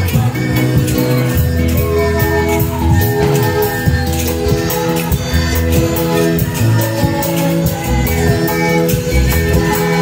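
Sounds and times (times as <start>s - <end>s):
drum kit: 0.0s - 10.0s
electric bass: 0.0s - 10.0s.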